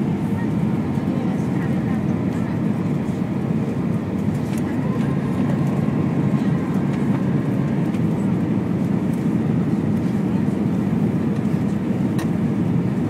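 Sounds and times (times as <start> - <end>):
airplane cabin engine and airflow noise: 0.0 - 13.0.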